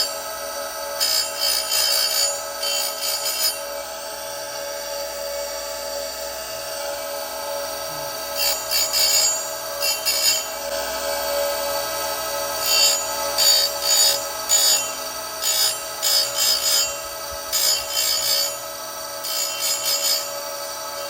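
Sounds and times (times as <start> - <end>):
grinder motor whine: 0.0 - 21.0.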